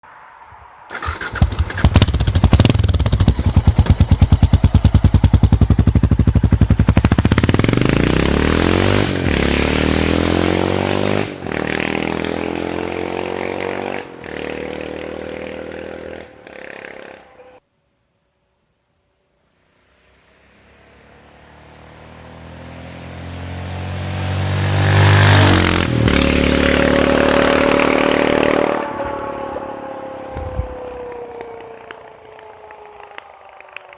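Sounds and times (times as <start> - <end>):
motorcycle engine revving: 0.9 - 17.5, 20.3 - 31.9.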